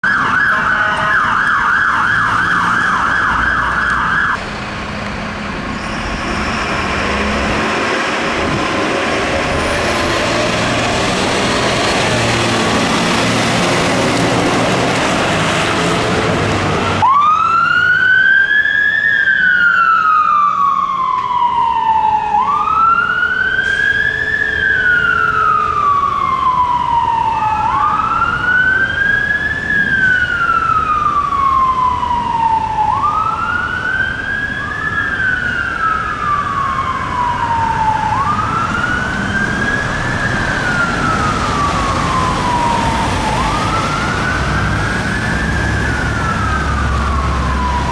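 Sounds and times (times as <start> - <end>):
engine and road noise: 0.0 - 47.9
fire engine siren wailing: 0.0 - 47.9.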